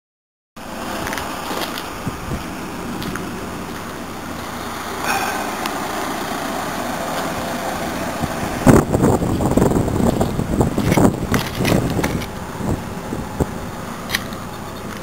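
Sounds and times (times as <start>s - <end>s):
diesel air compressor engine running: 0.7s - 15.0s.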